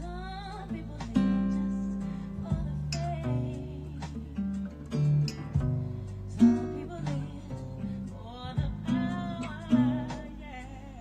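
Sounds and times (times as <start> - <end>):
person singing: 0.0 - 5.6, 6.2 - 11.0
acoustic guitar strumming chords: 0.0 - 11.0.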